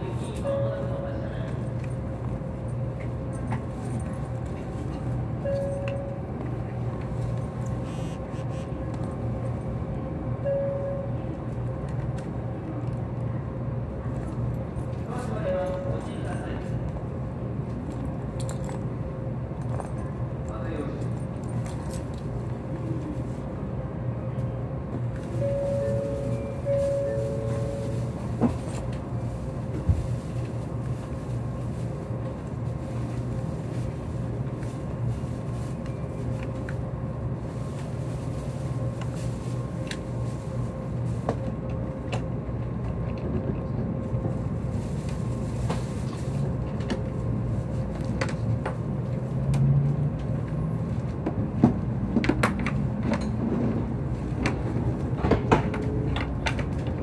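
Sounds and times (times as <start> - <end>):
train interior low hum: 0.0 - 57.0.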